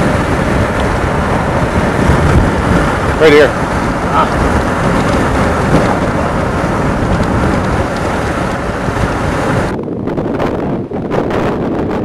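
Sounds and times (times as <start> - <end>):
car road noise: 0.0 - 12.0
wind noise on microphone: 0.0 - 12.0.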